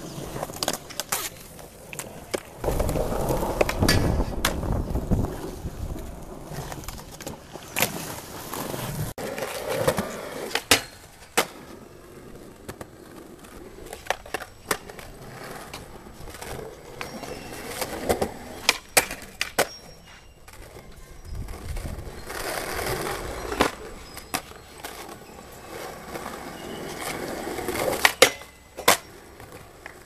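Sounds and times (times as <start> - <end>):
skateboard clacks: 0.0 - 30.0
skateboards rolling on concrete: 0.0 - 30.0.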